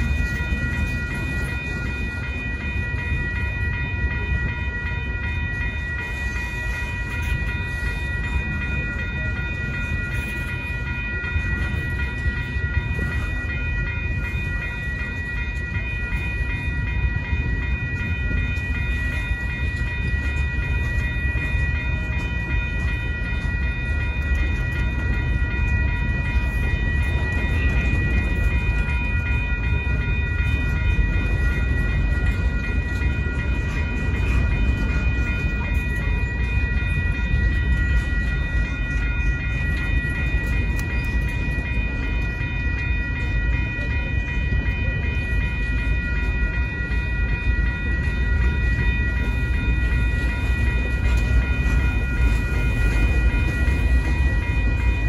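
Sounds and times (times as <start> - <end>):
crossing bell ringing: 0.0 - 55.0
freight train wheels rumbling: 0.0 - 55.0.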